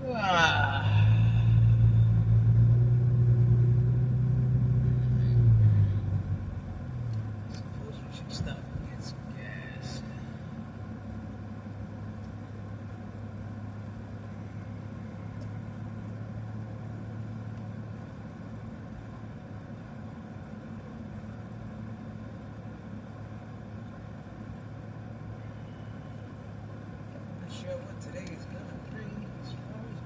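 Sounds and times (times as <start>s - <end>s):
car engine hum and road noise: 0.0s - 30.0s.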